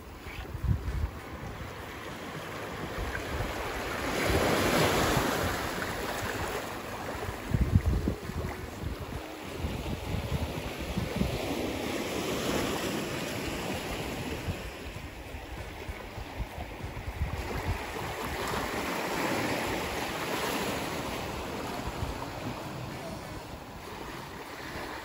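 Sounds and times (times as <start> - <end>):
small waves lapping on beach: 0.0 - 25.0
wind gusting on microphone: 0.0 - 25.0.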